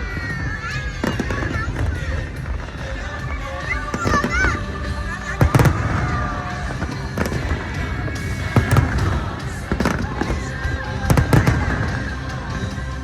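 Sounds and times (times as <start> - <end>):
fireworks bangs: 0.0 - 13.0
low rumble: 0.0 - 13.0
music playing: 0.0 - 13.0.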